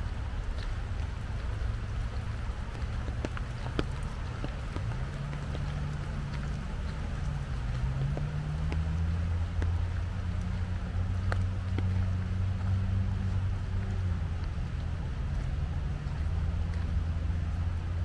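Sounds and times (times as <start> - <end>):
low engine-like hum: 0.0 - 18.0
raindrops ticking and dripping: 0.0 - 18.0.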